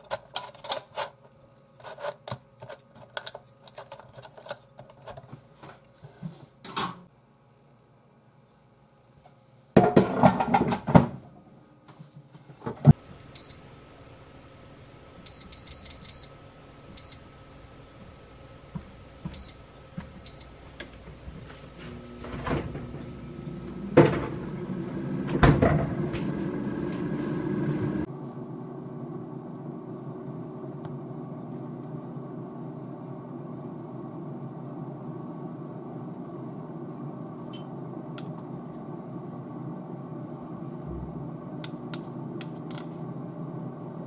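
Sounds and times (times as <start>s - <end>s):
air fryer humming: 0.0s - 44.0s.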